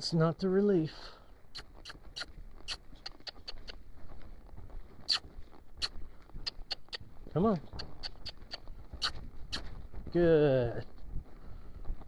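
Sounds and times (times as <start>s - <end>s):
horse hooves on sand: 0.0s - 12.0s.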